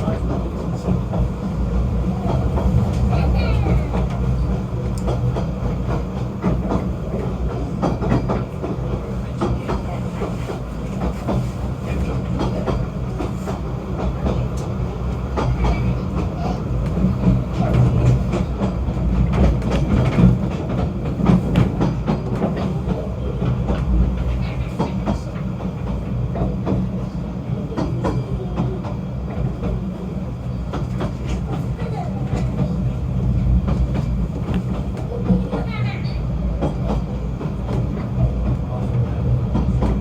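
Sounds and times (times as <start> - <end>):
train running low drone: 0.0 - 40.0.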